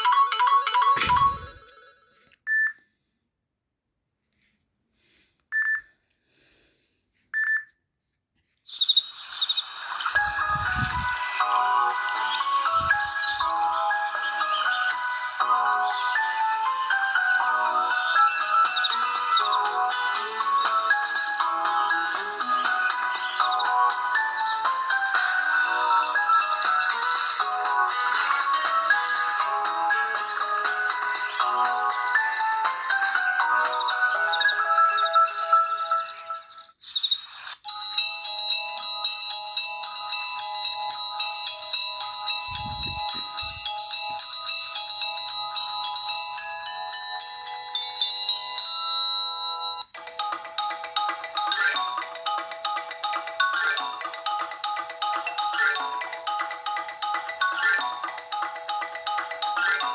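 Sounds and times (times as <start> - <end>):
chiming ringtone melody: 0.0 - 2.7, 9.0 - 59.9.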